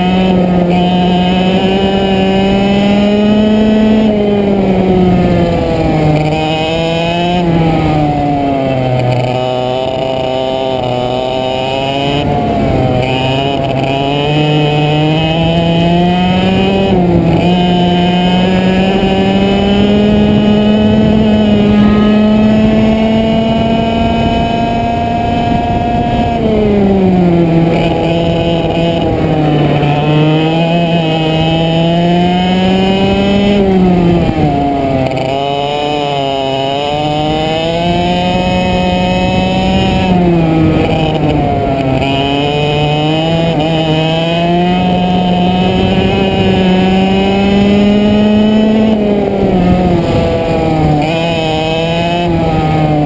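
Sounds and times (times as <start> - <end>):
go-kart engine running hard: 0.0 - 53.0.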